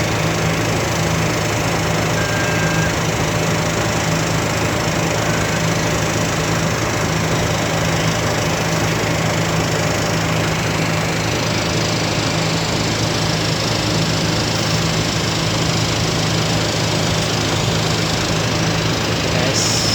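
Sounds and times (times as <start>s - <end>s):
ferry engine drone: 0.0s - 19.9s.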